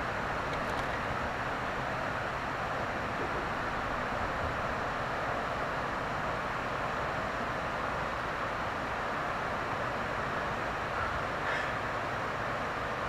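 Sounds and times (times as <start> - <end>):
steady outdoor rushing noise: 0.0 - 13.0.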